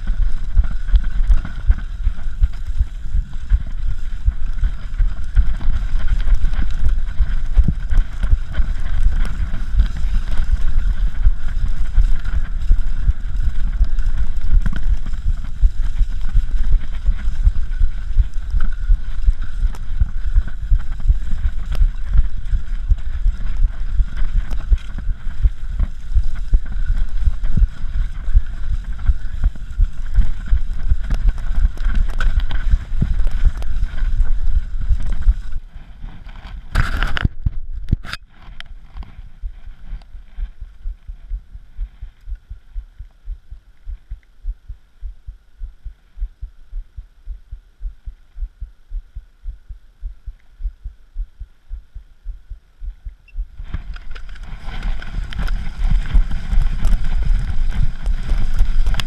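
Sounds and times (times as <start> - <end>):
bike knocking and rattling: 0.0 - 44.1, 53.5 - 59.0
wind rumble on camera: 0.0 - 59.0.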